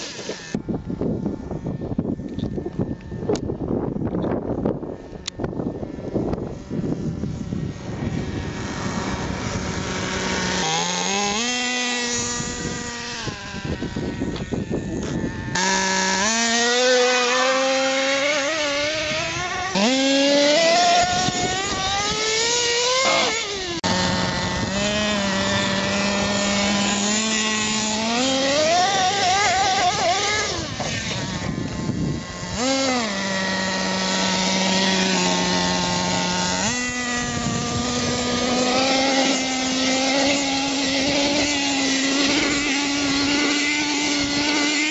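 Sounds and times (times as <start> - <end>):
toy truck motor revving: 0.0 - 0.6, 5.2 - 44.9.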